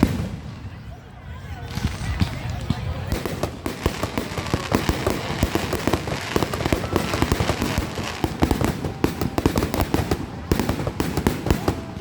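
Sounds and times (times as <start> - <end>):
fireworks bangs and pops: 0.0 - 0.9, 1.6 - 12.0.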